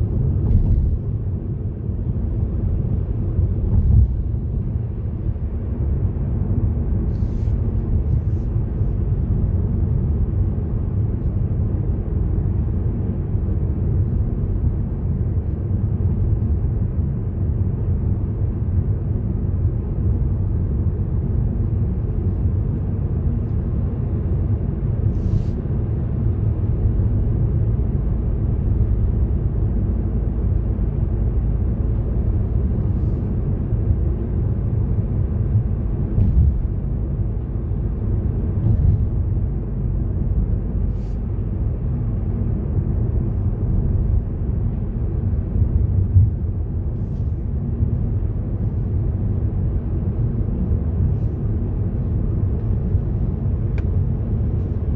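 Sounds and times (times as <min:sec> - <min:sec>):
car engine and tyre noise: 0:00.0 - 0:54.9.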